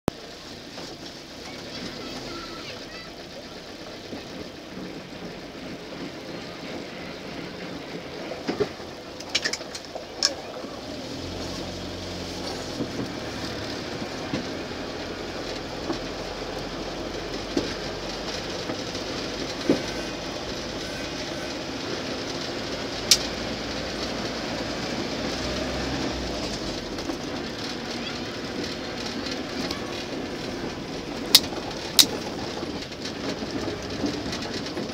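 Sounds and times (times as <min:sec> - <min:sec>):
off-road vehicle rumbling: 0:00.0 - 0:34.9
vehicle rattles and knocks: 0:00.1 - 0:34.9.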